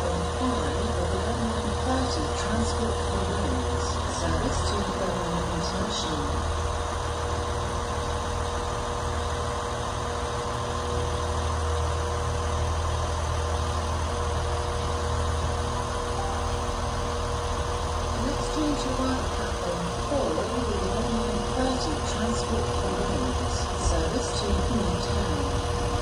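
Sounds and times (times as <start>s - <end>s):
diesel engines idling: 0.0s - 26.0s
thin steady tone: 0.0s - 26.0s.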